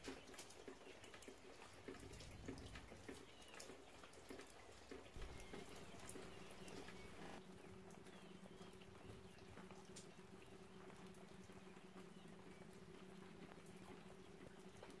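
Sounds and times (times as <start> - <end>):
raindrops pattering on leaves: 0.0 - 15.0
low steady hum: 1.4 - 15.0.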